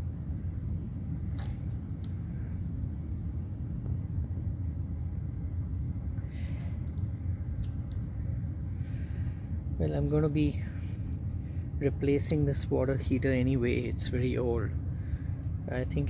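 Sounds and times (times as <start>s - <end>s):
low rumble of machinery: 0.0s - 16.0s.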